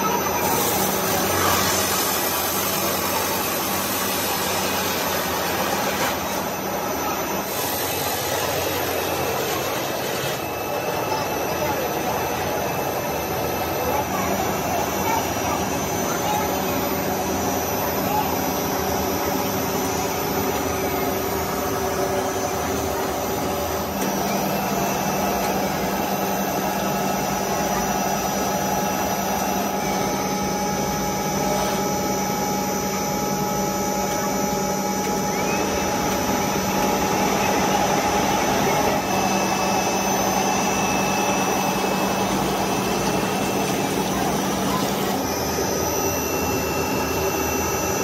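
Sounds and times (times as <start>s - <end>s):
machine hum and whine: 0.0s - 48.0s.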